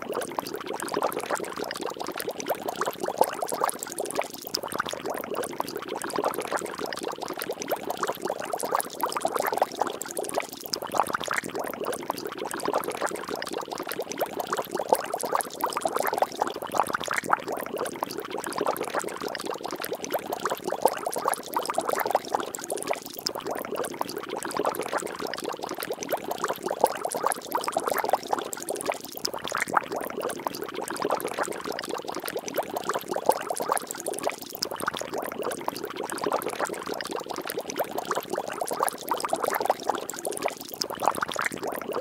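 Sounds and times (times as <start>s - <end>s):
water bubbling and splashing: 0.0s - 42.0s.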